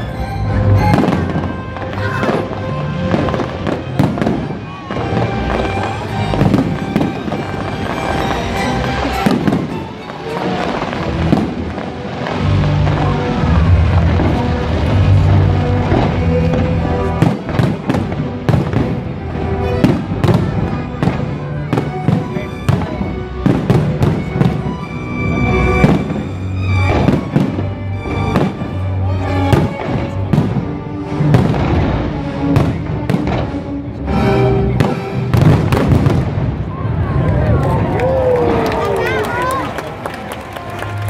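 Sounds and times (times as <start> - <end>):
orchestral music: 0.0 - 41.0
fireworks bangs and crackles: 0.5 - 34.0, 34.6 - 41.0.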